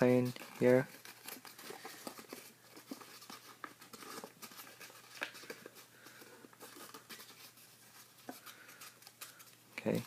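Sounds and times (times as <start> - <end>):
paper crackling and creasing: 0.0 - 10.0.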